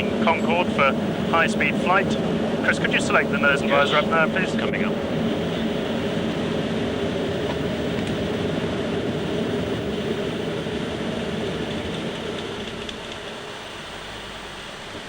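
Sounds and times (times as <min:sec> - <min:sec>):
rushing airflow noise: 0:00.0 - 0:13.9.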